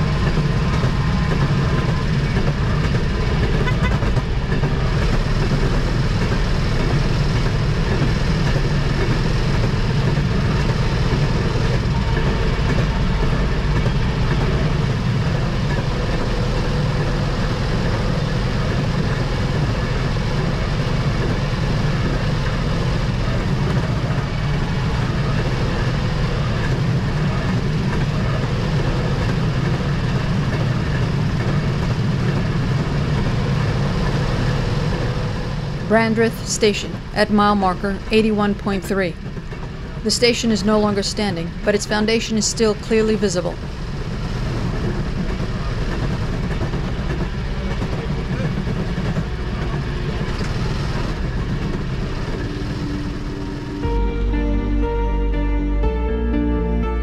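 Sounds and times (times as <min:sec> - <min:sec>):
motorcar engine running: 0:00.0 - 0:40.0, 0:42.9 - 0:56.8
wheels rumbling on rails: 0:00.0 - 0:54.9.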